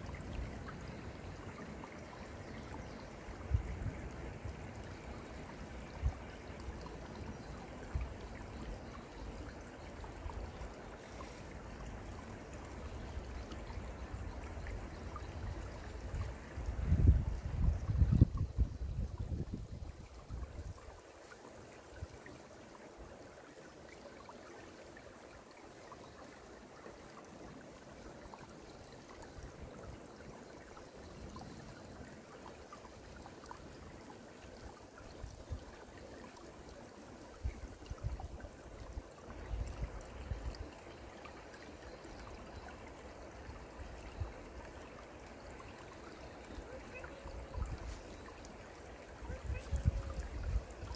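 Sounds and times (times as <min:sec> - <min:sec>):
stream babbling over stones: 0:00.0 - 0:50.9.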